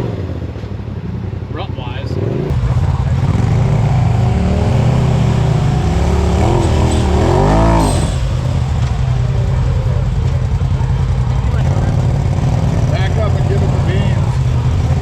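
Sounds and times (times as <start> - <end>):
utility vehicle engine revving: 2.2 - 15.0.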